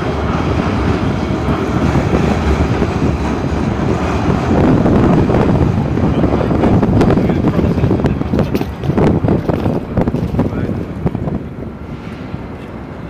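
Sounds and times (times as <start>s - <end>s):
city street noise: 0.0s - 13.0s
wind buffeting microphone: 0.0s - 13.0s.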